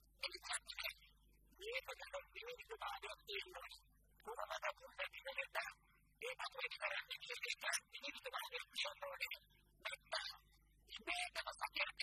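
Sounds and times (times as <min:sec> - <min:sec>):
man speaking: 0:00.2 - 0:12.0.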